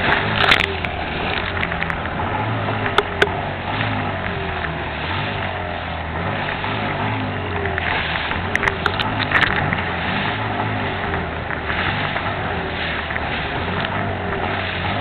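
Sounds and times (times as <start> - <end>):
breaking water: 0.0 - 15.0
motorboat engine running: 0.0 - 15.0.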